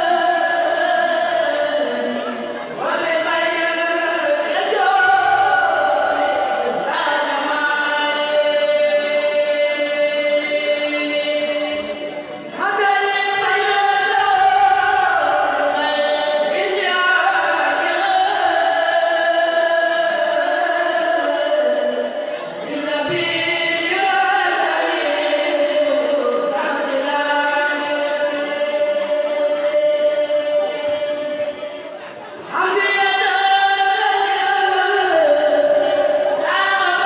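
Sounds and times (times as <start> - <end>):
male group chanting a capella: 0.0 - 31.8.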